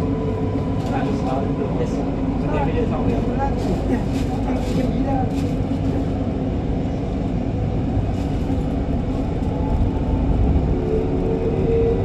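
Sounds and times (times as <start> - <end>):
metro train wheels rumbling: 0.0 - 12.0.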